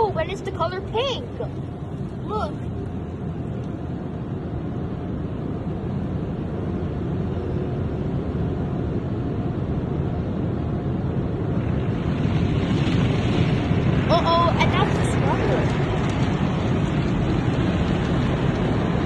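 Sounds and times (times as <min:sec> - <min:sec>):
car wash water spray and machinery: 0:00.0 - 0:19.0.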